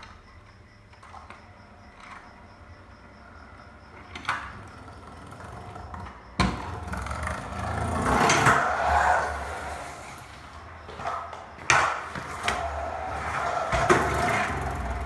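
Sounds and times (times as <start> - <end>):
scooter wheels rolling on concrete: 0.0 - 15.0.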